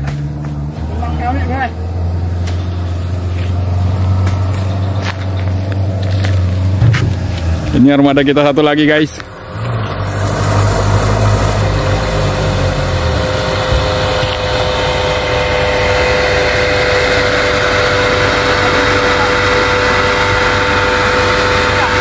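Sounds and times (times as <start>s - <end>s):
deep rumble: 0.0s - 18.5s
vehicle engines running: 0.0s - 22.0s.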